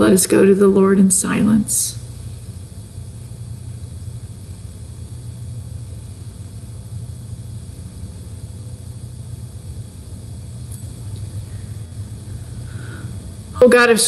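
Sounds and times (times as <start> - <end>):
low rumble with faint hiss: 0.0 - 14.0.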